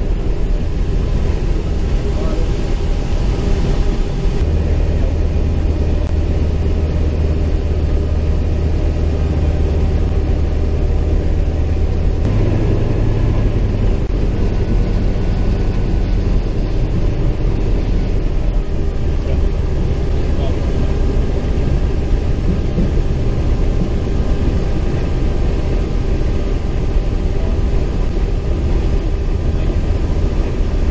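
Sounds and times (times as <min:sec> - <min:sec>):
aircraft radial engine drone: 0:00.0 - 0:30.9.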